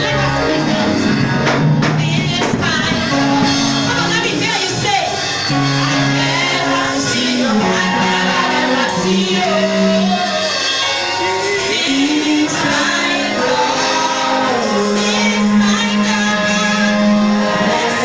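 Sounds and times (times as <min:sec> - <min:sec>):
dense instrumental backing: 0:00.0 - 0:18.0
gospel singing: 0:00.0 - 0:18.0.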